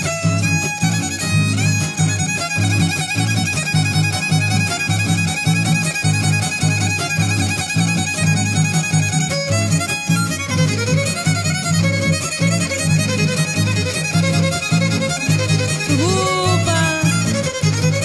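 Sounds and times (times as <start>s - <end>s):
strummed guitars: 0.0s - 18.0s.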